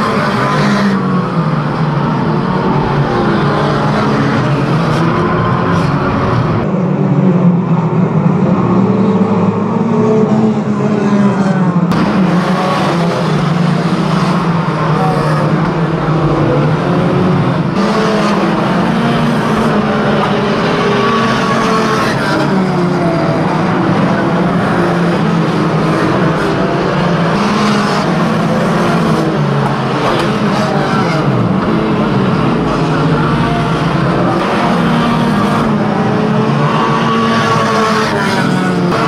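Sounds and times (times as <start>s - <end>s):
racing car engines: 0.0s - 39.0s.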